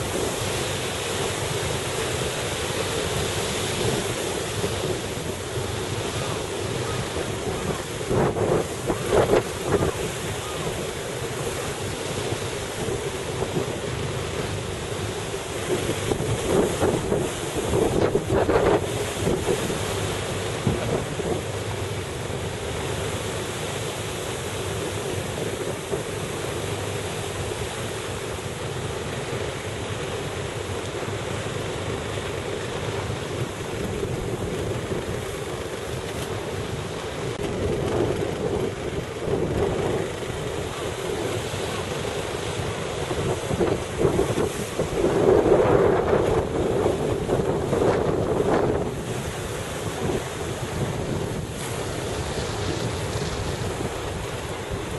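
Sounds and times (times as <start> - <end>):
sea and boat noise: 0.0 - 54.9
wind buffeting microphone: 0.0 - 54.9.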